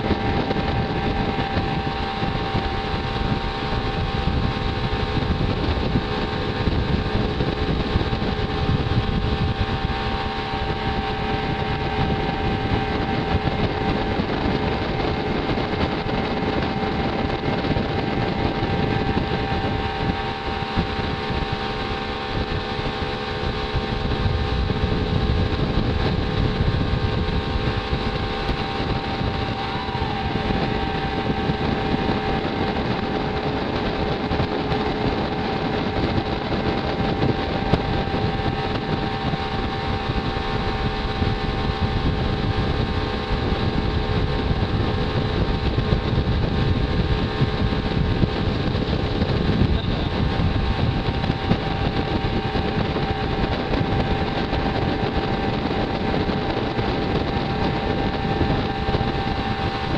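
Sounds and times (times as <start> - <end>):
motorboat engine running: 0.0 - 59.9
wind and water rushing: 0.0 - 59.9.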